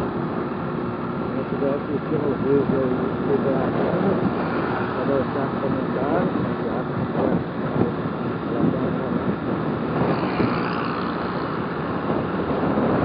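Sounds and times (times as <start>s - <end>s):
motorcycle engine running: 0.0s - 13.0s
wind rushing on microphone: 0.0s - 13.0s.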